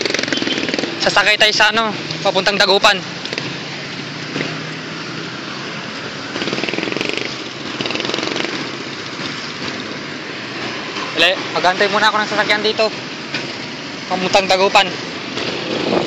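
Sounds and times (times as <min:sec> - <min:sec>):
rattly vehicles passing: 0:00.0 - 0:16.0
road noise: 0:00.0 - 0:16.0.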